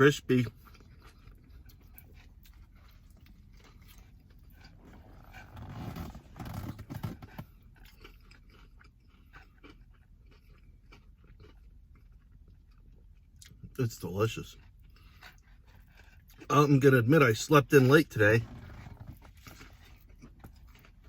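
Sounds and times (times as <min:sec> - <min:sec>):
person chewing crunchy food: 0:00.0 - 0:16.8, 0:18.6 - 0:21.0.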